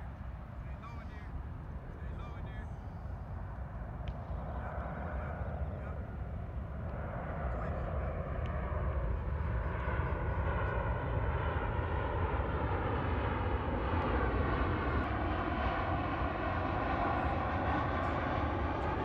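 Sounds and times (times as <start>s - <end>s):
airplane flying overhead: 0.0s - 19.0s.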